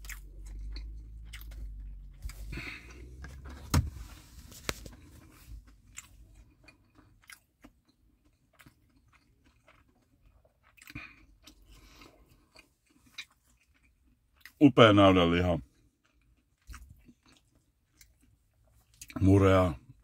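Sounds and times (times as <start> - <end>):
person chewing food: 0.0 - 3.7, 4.4 - 14.6, 15.6 - 19.2.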